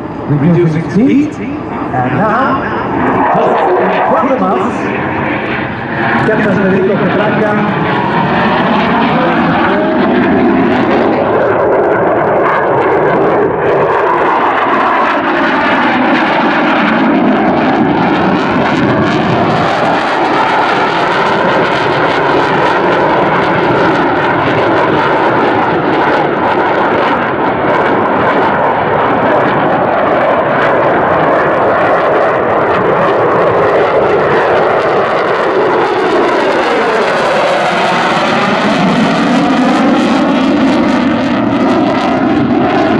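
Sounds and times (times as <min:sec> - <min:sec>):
fighter jet engine roaring: 0:00.0 - 0:42.9.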